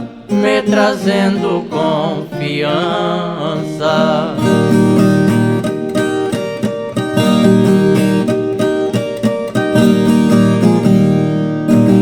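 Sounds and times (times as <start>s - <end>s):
guitar strings plucked and strummed: 0.0s - 12.0s.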